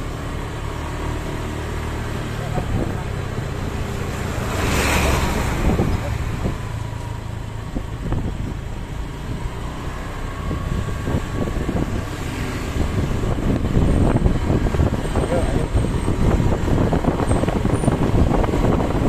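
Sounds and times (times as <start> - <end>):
bus engine passing: 0.0 - 19.0.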